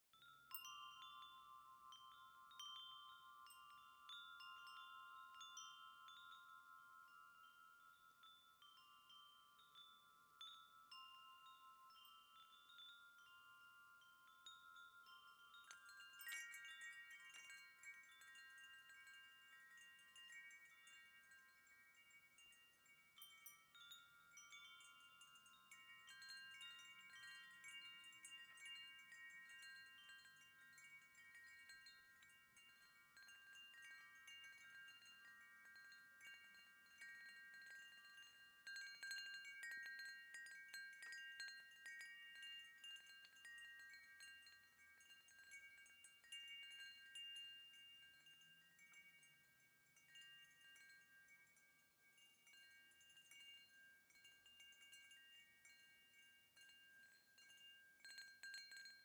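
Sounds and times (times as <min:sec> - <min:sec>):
wind chime ringing: 0:00.2 - 0:59.0.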